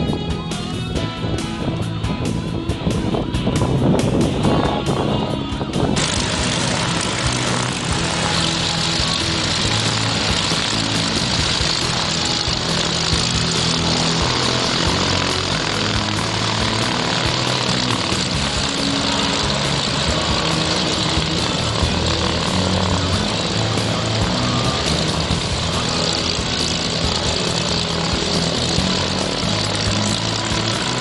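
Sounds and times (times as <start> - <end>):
propeller aircraft engines running: 0.0 - 31.0.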